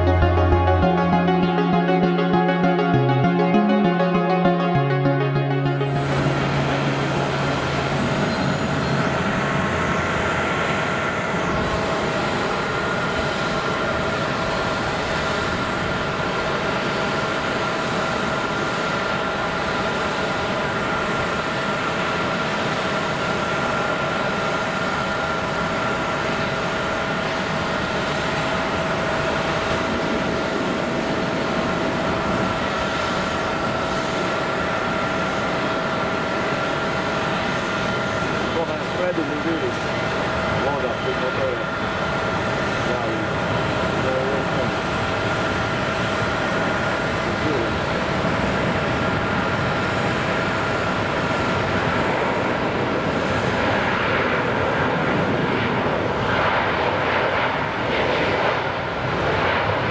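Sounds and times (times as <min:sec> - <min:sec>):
jet engines roaring with high whine: 0:06.1 - 0:59.9.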